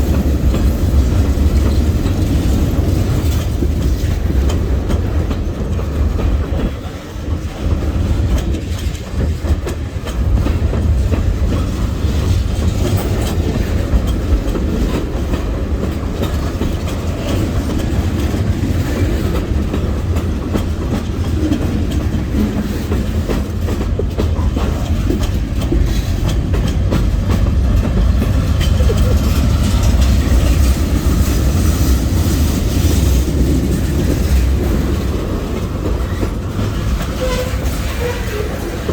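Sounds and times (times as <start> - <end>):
freight train rumbling: 0.0 - 38.9
wheels clicking over rail joints: 0.0 - 38.9.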